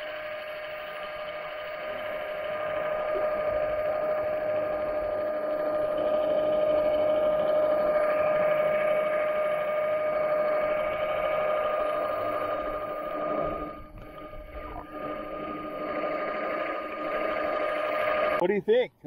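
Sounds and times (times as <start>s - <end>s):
electric motor whine: 0.0s - 18.4s.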